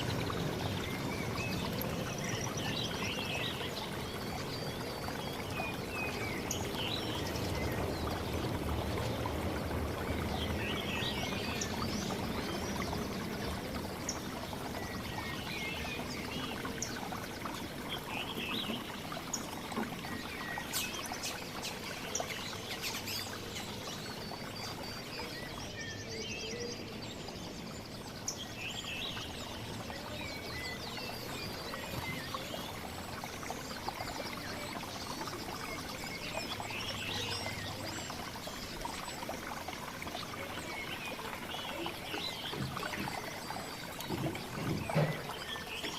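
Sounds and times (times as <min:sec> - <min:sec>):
running water: 0:00.0 - 0:45.9
songbirds chirping: 0:00.0 - 0:45.9.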